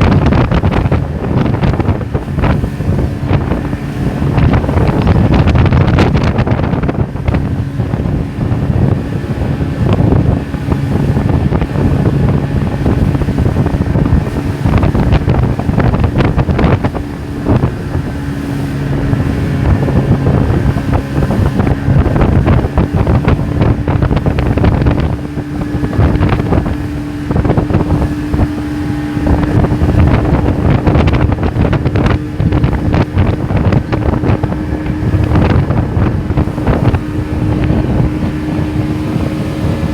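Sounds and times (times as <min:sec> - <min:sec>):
motorboat engine running: 0:00.0 - 0:39.9
rush of wind and water: 0:00.0 - 0:39.9
wind buffeting microphone: 0:00.0 - 0:39.9.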